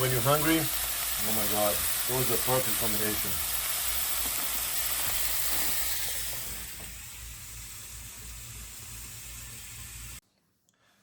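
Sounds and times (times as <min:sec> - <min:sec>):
sausages sizzling in a frying pan: 0:00.0 - 0:10.2.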